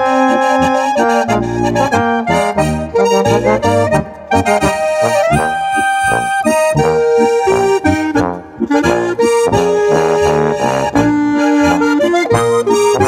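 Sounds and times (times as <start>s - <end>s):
folk trio playing a dance tune: 0.0s - 13.0s.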